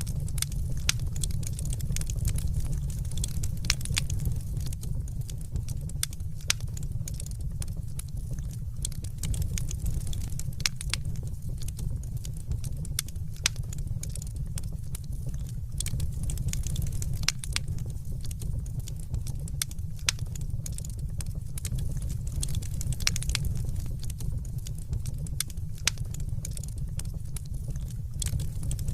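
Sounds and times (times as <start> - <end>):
fire crackling and popping: 0.0 - 28.9
low fire rumble: 0.0 - 28.9.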